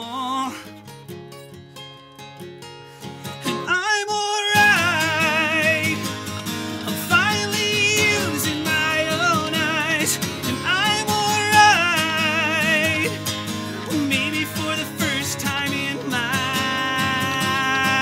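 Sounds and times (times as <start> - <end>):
man singing with vibrato: 0.0 - 0.7, 3.4 - 18.0
acoustic guitar: 0.0 - 18.0.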